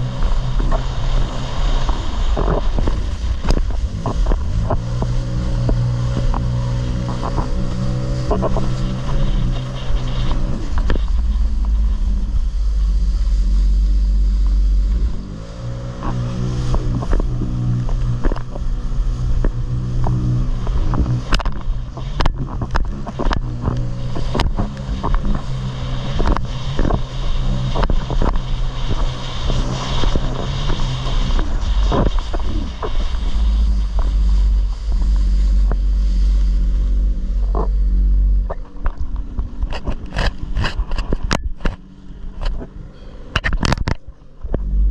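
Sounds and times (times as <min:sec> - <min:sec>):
jet ski engine running: 0:00.0 - 0:44.9.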